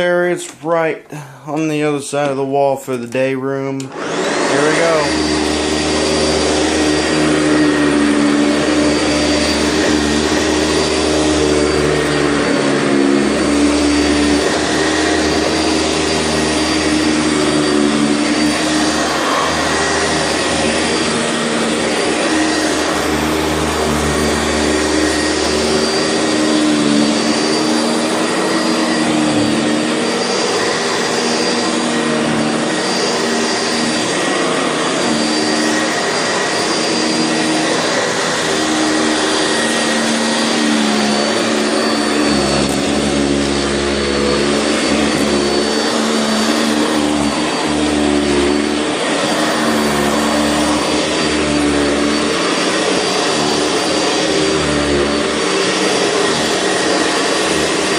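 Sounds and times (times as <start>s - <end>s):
vacuum cleaner running: 0.0s - 2.8s, 3.6s - 57.9s.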